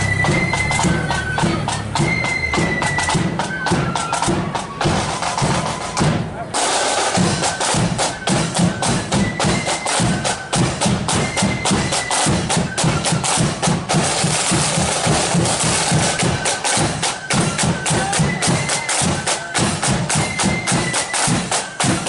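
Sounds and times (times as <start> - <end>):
high flute notes: 0.0 - 22.0
rapid snare drum beating: 0.0 - 22.0.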